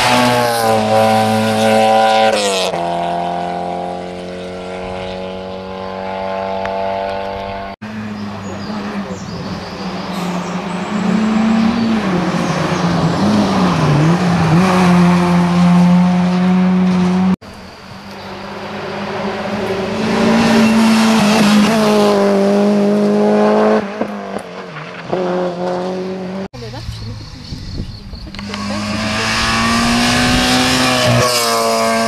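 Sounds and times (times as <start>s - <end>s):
rally car engine revving: 0.0s - 17.4s, 18.2s - 32.0s.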